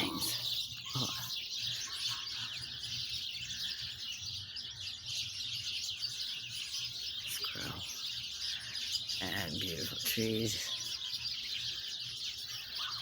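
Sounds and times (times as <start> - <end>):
flock of small birds chirping: 0.0 - 13.0.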